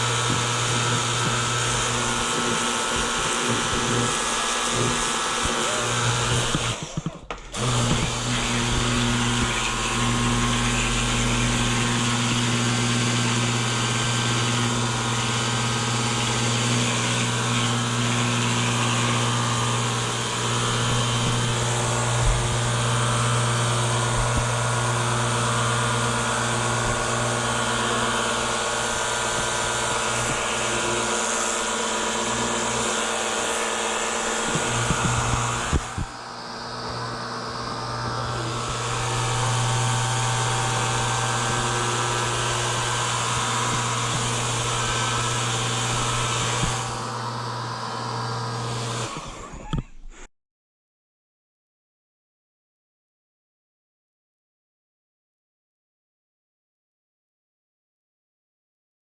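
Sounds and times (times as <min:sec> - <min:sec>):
pressure washer running: 0:00.0 - 0:49.3.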